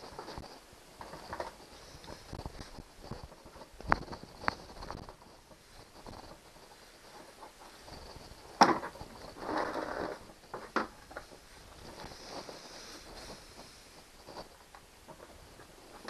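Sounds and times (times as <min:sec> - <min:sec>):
scraping rustle: 0:00.0 - 0:16.0.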